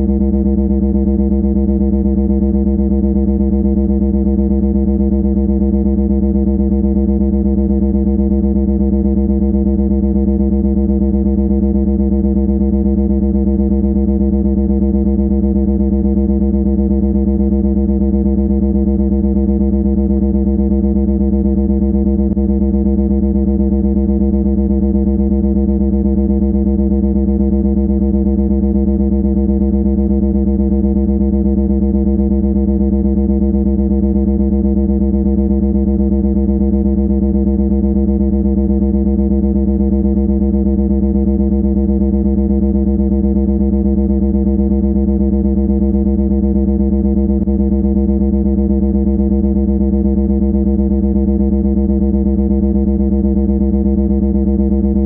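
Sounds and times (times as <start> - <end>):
harsh low buzzing drone: 0.0 - 55.0.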